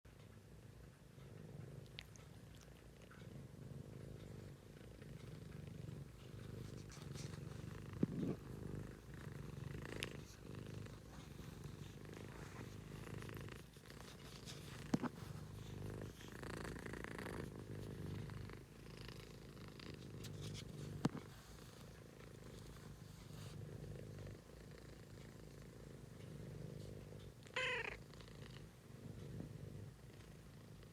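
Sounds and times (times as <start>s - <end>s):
cat snoring: 1.2s - 21.8s, 22.8s - 27.3s, 27.9s - 30.9s.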